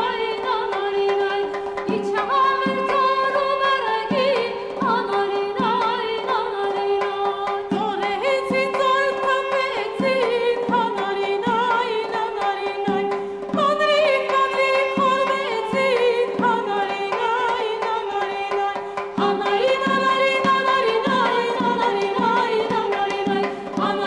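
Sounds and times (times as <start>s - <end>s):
hand drum slow beat: 0.0s - 24.0s
woman singing folk melody: 0.0s - 24.0s.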